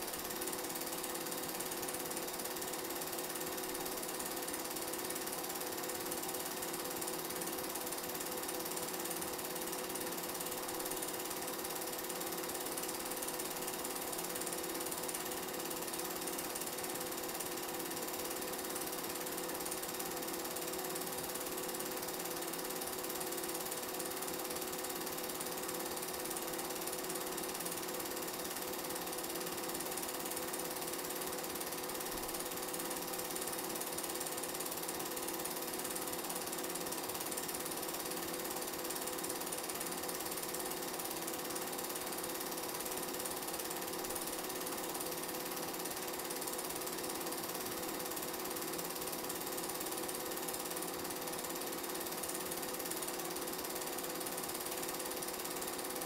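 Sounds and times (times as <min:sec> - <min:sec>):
film projector whirring and clattering: 0:00.0 - 0:56.0.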